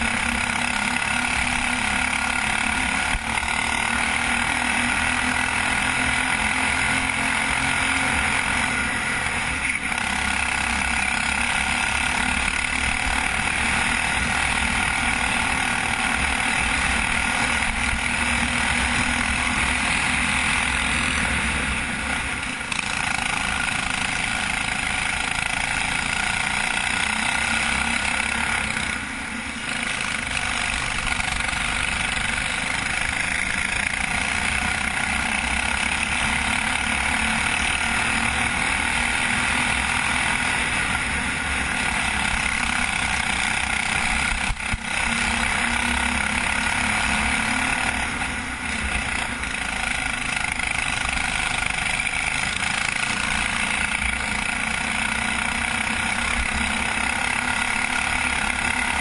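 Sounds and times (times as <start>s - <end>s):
go-kart engine droning: 0.0s - 59.0s.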